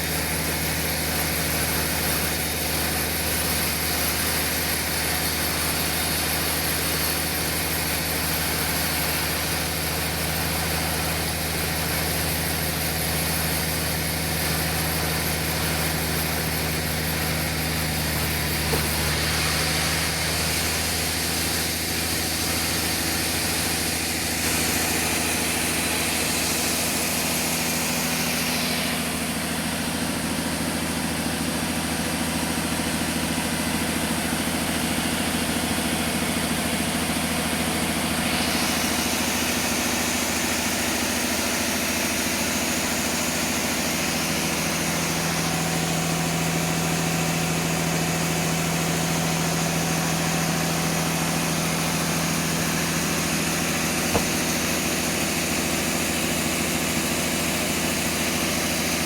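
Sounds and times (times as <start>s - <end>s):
engine hum: 0.0s - 59.0s.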